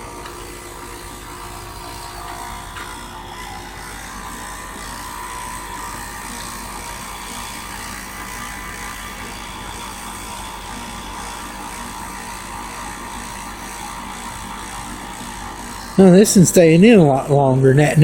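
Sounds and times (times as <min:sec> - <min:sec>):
compressor hum: 0:00.0 - 0:18.0.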